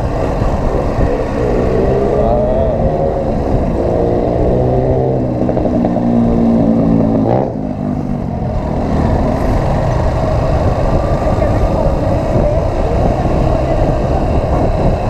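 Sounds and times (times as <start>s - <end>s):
motorcycle engine: 0.0s - 15.0s
wind rumble on microphone: 0.0s - 15.0s.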